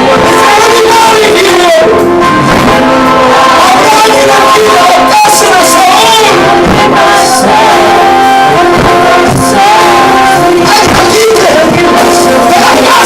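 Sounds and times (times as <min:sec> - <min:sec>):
band instruments playing: 0:00.0 - 0:13.0
person singing: 0:00.0 - 0:13.0.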